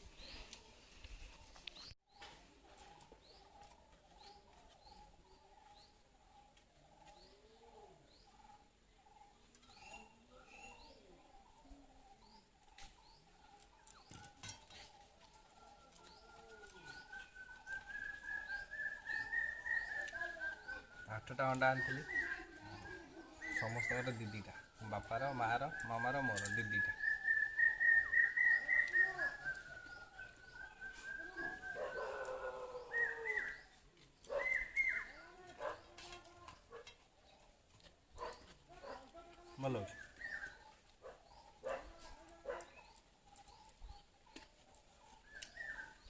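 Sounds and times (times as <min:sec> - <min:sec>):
birds chirping: 0:00.0 - 0:46.0
birds cooing: 0:02.6 - 0:46.0.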